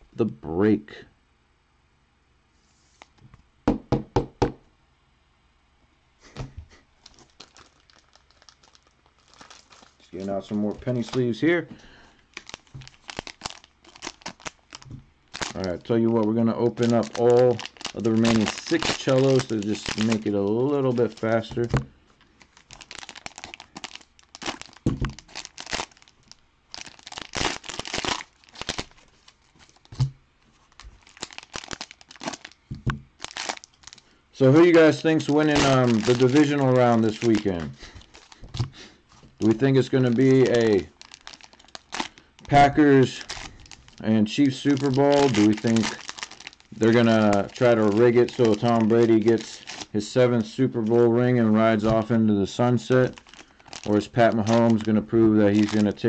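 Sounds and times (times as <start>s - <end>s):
cellophane wrappers tearing and crinkling: 7.0s - 56.0s.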